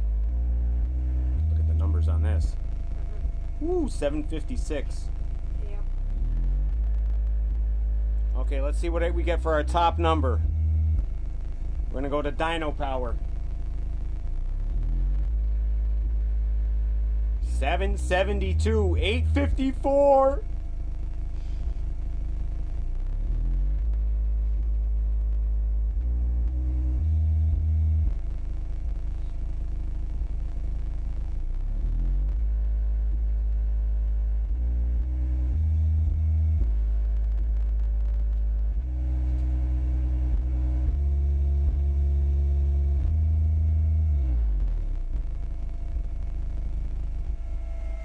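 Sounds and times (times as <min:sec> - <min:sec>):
low bass test tone: 0:00.0 - 0:48.0
steady hum: 0:00.0 - 0:48.0.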